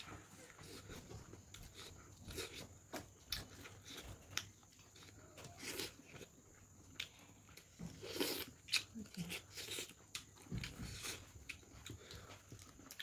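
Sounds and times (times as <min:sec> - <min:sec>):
chewing: 0:00.0 - 0:13.0.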